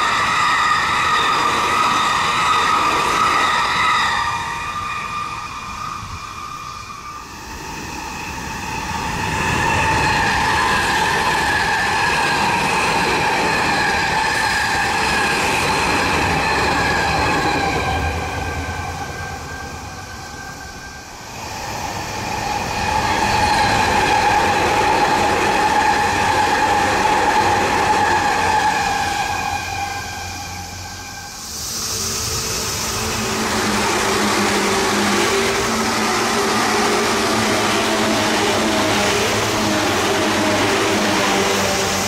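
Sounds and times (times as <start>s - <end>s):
train wheels rushing on rail: 0.0s - 42.0s.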